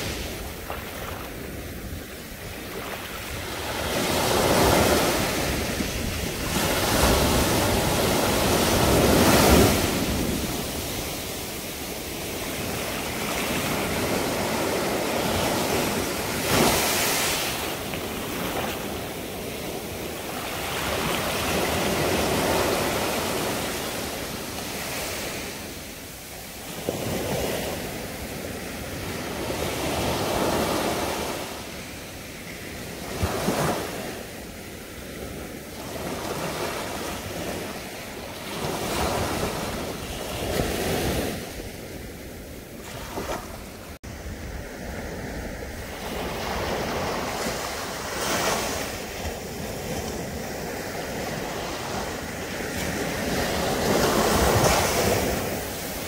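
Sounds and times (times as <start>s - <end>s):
waves washing onto sandy beach: 0.0s - 56.0s.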